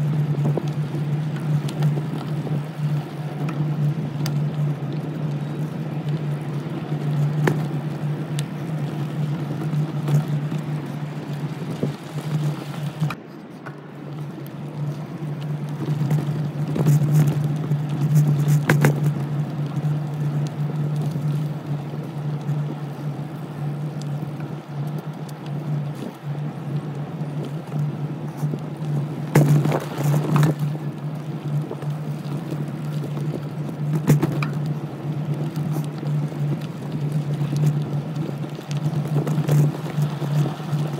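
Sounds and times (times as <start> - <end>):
low motor hum: 0.0 - 40.9.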